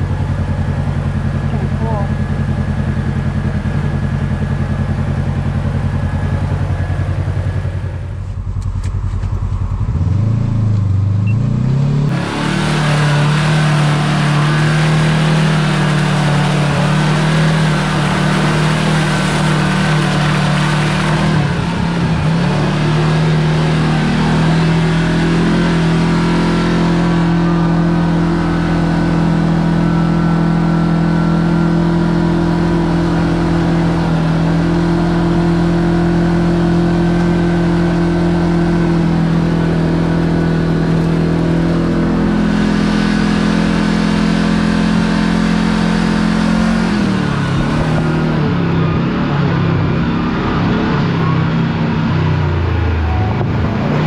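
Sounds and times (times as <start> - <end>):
side-by-side engine running: 0.0 - 54.0.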